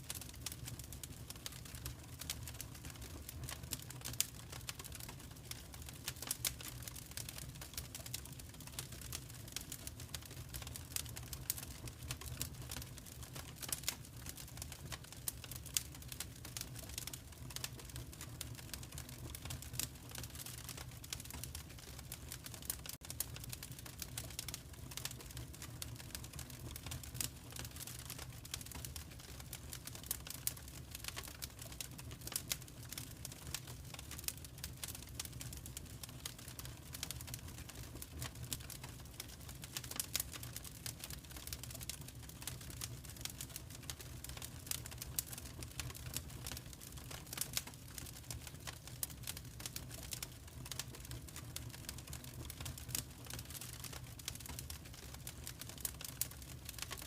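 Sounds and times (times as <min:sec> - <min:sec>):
wood fire crackling: 0:00.0 - 0:57.0
low fire rumble: 0:00.1 - 0:57.0.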